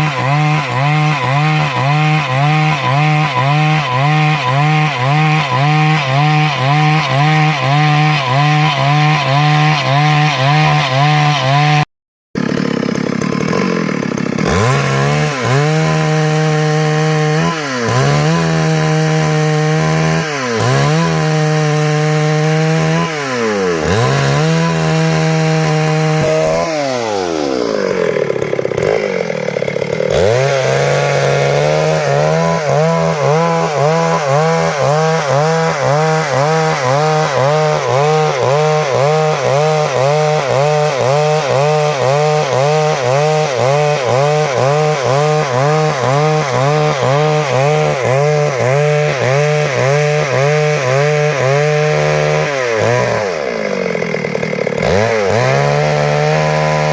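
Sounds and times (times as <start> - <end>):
chainsaw sawing wood: 0.0 - 56.9.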